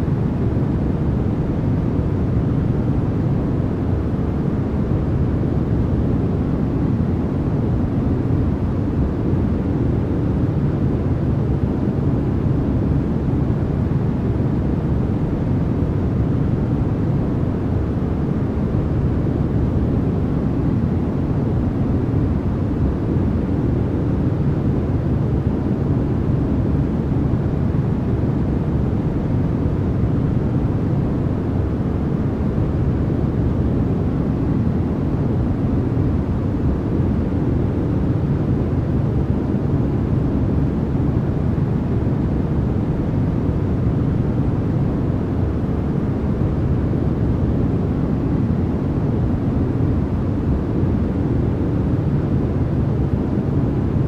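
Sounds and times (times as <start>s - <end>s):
deep rumbling white noise: 0.0s - 54.0s.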